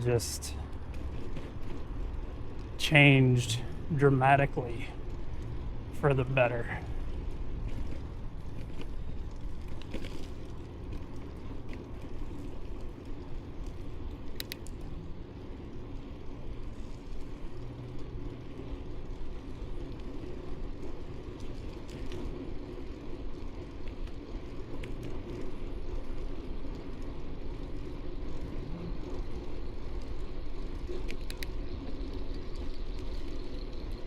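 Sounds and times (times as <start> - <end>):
bike tyres humming: 0.0 - 34.0
faint ticks: 0.0 - 34.0.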